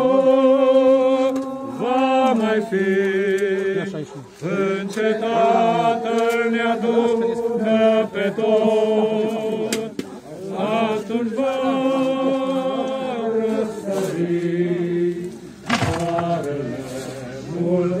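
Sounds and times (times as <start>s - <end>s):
group singing a slow hymn: 0.0s - 18.0s.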